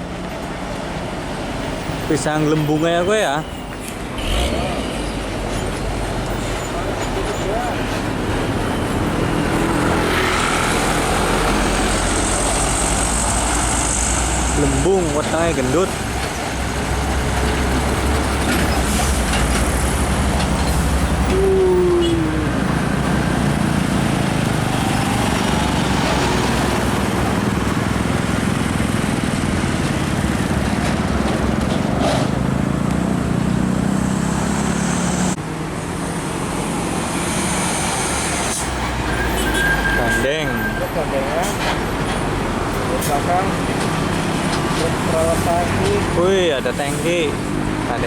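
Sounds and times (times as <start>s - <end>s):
trucks driving past: 0.0s - 48.0s.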